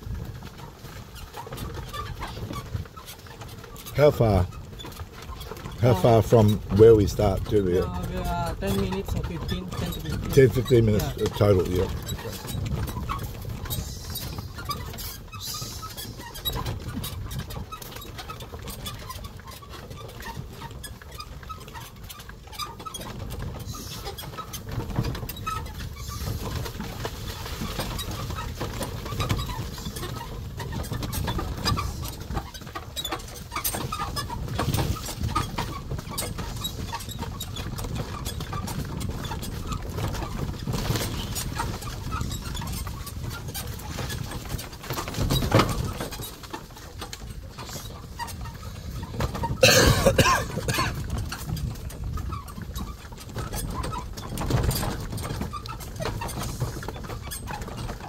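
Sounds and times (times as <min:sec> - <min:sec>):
cart clattering and knocking: 0:00.0 - 0:58.0
cart rumbling: 0:00.0 - 0:58.0.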